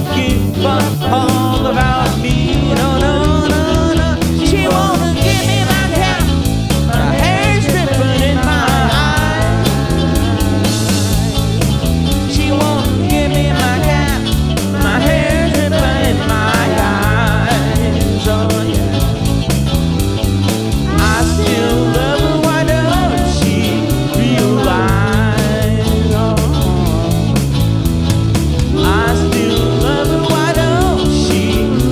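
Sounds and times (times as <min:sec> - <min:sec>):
bending lead guitar notes: 0:00.0 - 0:31.9
drums and bass beat: 0:00.0 - 0:31.9.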